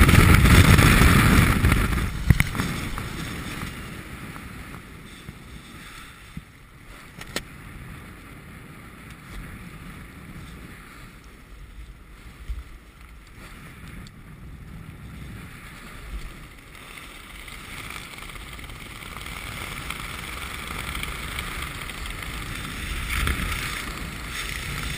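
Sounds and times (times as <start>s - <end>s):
wind rushing over microphone: 0.0s - 24.9s.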